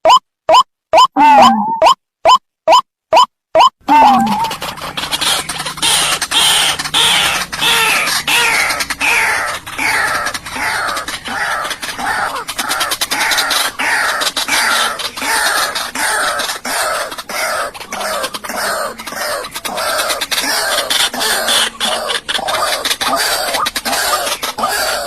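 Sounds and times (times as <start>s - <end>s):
bird harsh falling calls: 3.9s - 25.0s.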